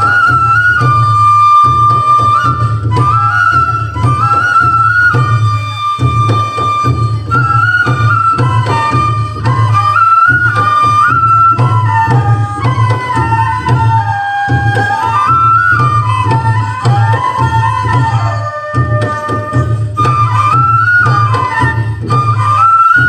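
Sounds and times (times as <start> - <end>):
flute melody: 0.0 - 23.0.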